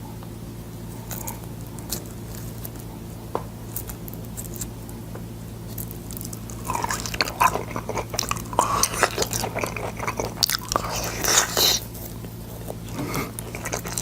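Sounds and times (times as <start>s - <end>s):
steady low hum: 0.0s - 14.0s
crunchy chewing: 0.8s - 14.0s.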